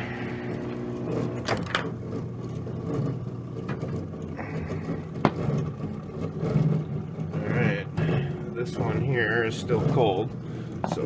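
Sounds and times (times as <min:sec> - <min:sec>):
microwave electrical hum: 0:00.0 - 0:11.0
rough cooling fan noise: 0:00.0 - 0:11.0.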